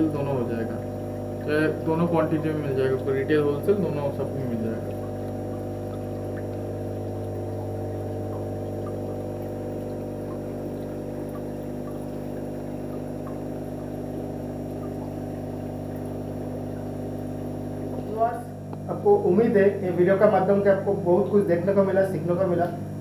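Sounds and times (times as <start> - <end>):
aquarium pumps humming: 0.0 - 23.0
water trickling: 0.0 - 23.0.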